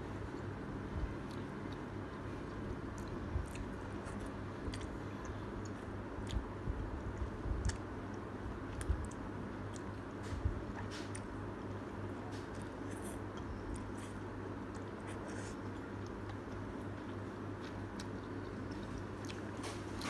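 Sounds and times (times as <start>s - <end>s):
person chewing noodles: 0.2s - 20.0s.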